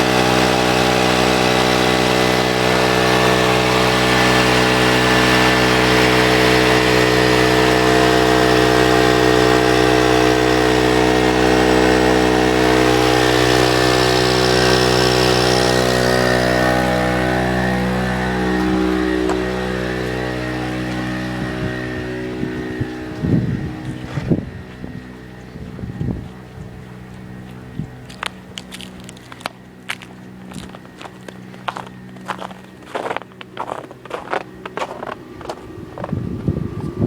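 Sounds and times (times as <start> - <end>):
generator engine running: 0.0 - 37.0.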